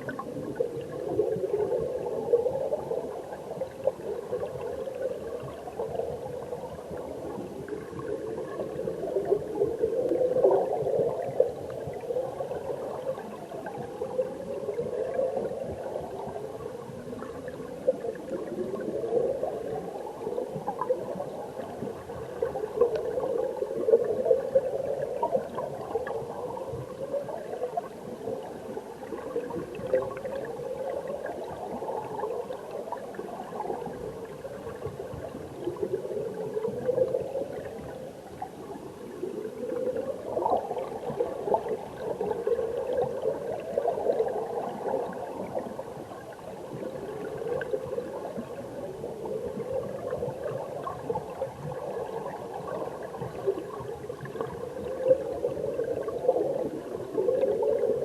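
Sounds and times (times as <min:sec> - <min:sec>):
underwater stream gurgling: 0:00.0 - 0:58.0.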